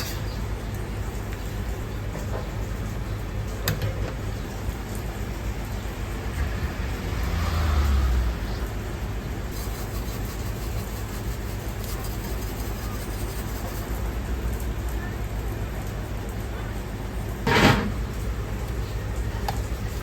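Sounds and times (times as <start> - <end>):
gas burners and extractor hood rumble: 0.0 - 9.7, 13.5 - 20.0.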